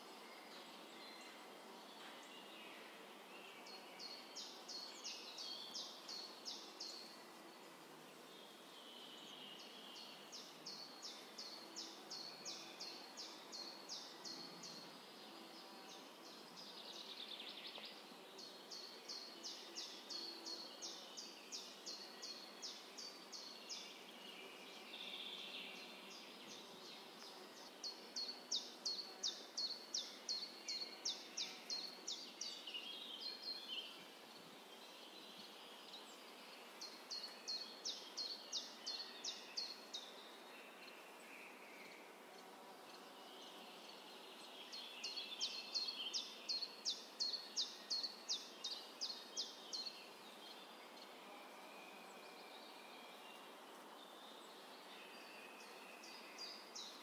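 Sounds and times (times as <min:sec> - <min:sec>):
faint outdoor background noise: 0:00.0 - 0:57.0
bird chirping: 0:08.5 - 0:57.0.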